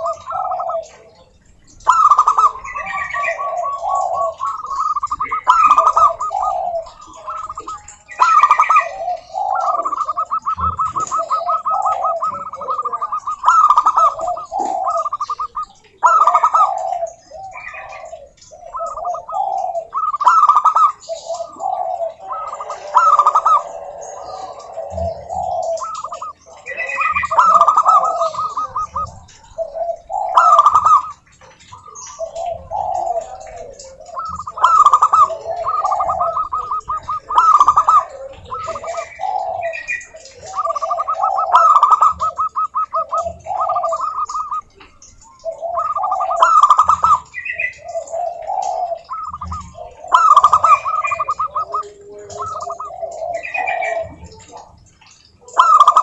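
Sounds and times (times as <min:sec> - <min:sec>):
doves trilled cooing: 0:00.0 - 0:56.0
low dove coos: 0:00.0 - 0:56.0.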